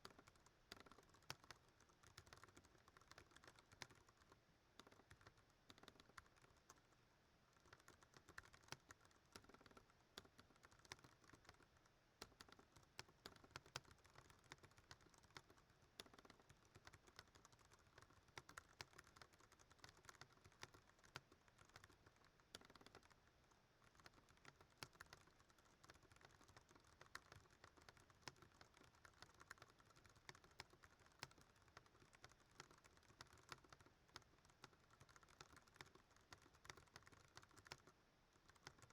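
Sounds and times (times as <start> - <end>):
mechanical keyboard typing: 0.0 - 6.8, 7.6 - 23.2, 23.8 - 38.9.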